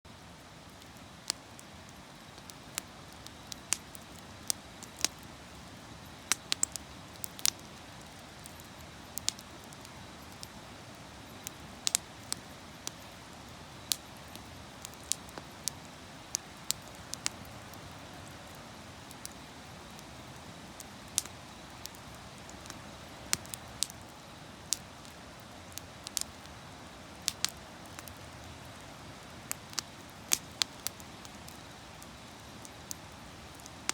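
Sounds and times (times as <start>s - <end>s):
wood fire crackling and popping: 0.2s - 33.9s.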